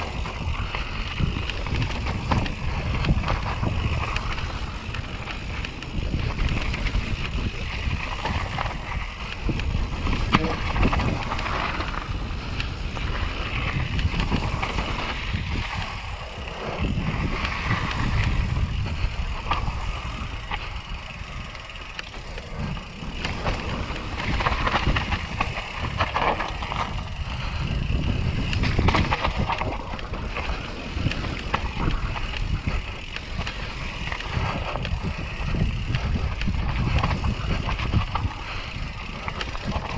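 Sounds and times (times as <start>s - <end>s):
bike knocks and rattles: 0.0s - 39.9s.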